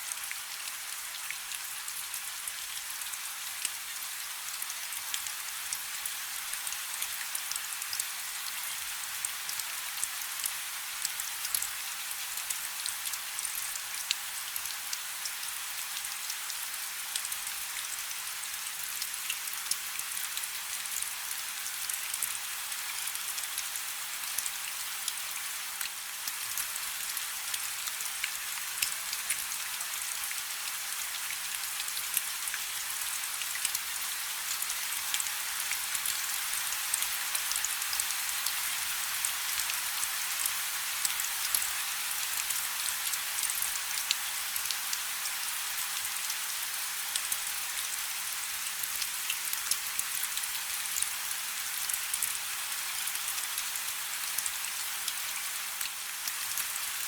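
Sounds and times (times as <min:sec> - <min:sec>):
rain falling on a river: 0:00.0 - 0:57.0.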